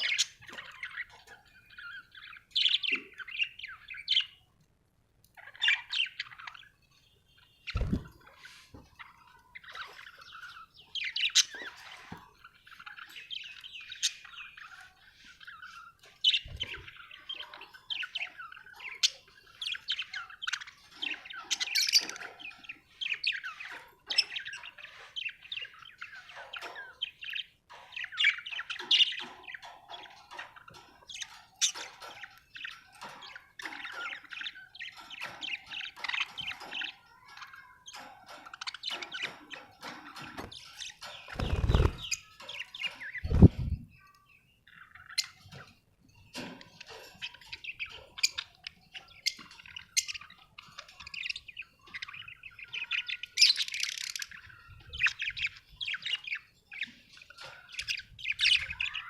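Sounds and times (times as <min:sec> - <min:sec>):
budgerigars chirping and warbling: 0:00.0 - 0:59.0.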